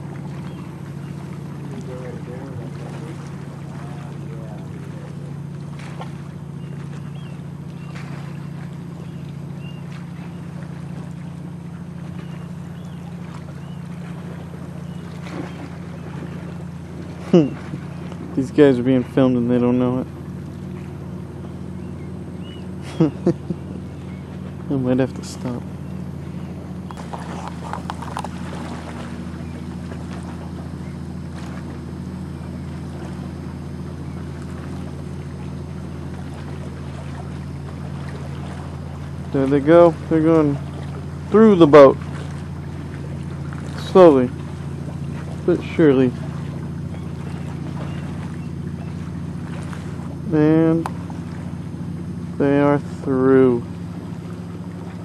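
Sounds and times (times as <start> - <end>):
kayak paddle splashes: 0.0 - 55.0
low motor hum: 0.0 - 55.0.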